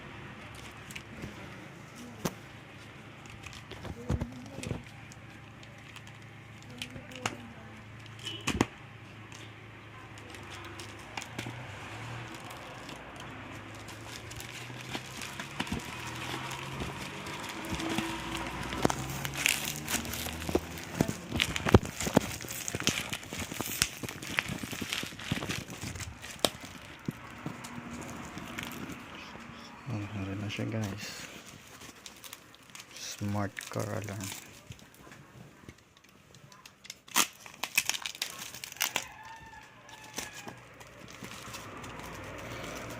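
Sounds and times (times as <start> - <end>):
plastic wrapping crinkling and tearing: 0.3 - 29.4, 30.2 - 42.9.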